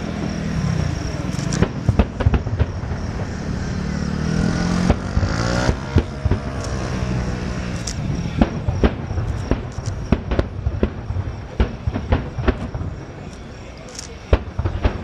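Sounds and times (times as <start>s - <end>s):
fireworks bangs: 0.0s - 15.0s
low background rumble: 0.0s - 15.0s.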